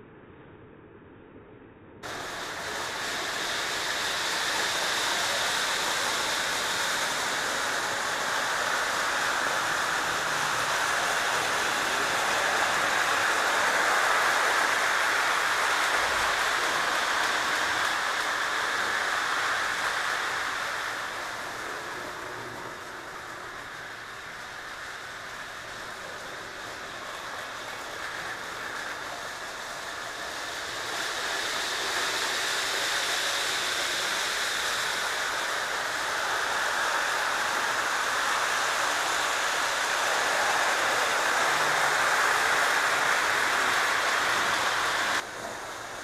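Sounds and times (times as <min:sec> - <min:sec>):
model train running on track: 0:02.0 - 0:46.0.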